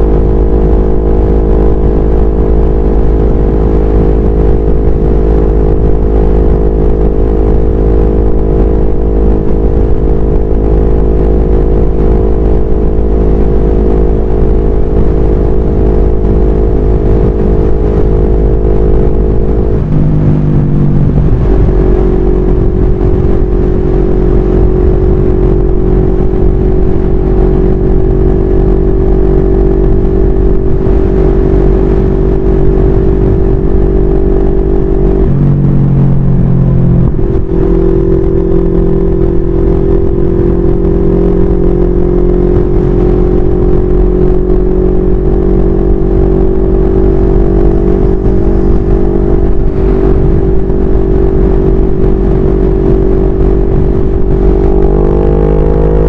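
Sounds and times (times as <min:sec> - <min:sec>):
motorcycle engine running: 0:00.0 - 0:56.0
wind rumble on microphone: 0:00.0 - 0:56.0.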